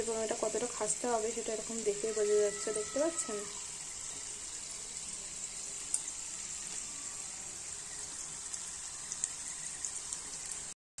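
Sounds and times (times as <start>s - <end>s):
food deep-frying in oil: 0.0s - 10.8s
oil crackling and popping: 0.0s - 10.8s.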